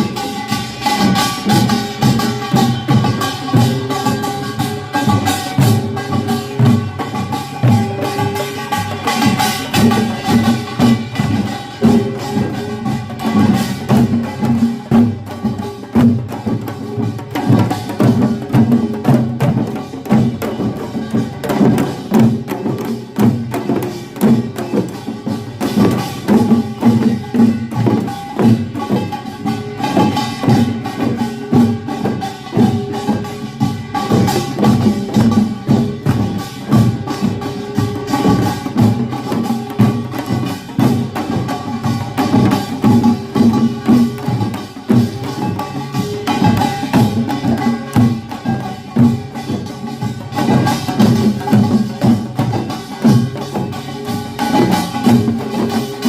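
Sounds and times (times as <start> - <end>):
drums beating fast rhythm: 0.0 - 56.0.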